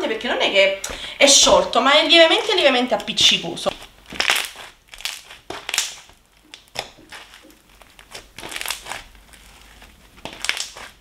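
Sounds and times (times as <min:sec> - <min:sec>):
slime squelching and crackling: 0:01.3 - 0:11.0.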